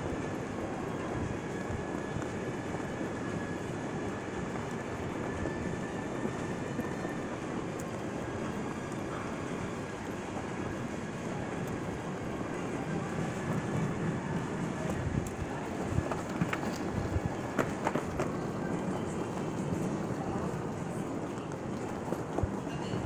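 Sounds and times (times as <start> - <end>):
airport terminal din: 0.1 - 23.0
suitcase wheels rolling on tiles: 0.4 - 23.0.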